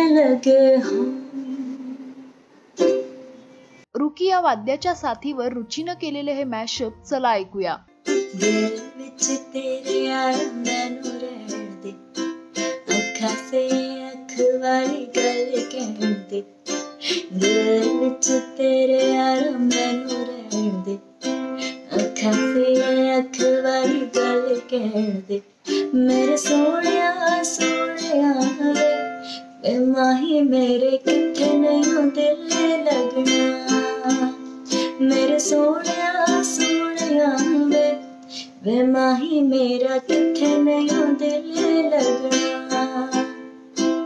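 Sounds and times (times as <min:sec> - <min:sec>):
woman singing: 0:00.0 - 0:02.3, 0:08.2 - 0:21.1, 0:21.8 - 0:43.4
ukulele strumming: 0:00.0 - 0:03.7, 0:07.9 - 0:44.0.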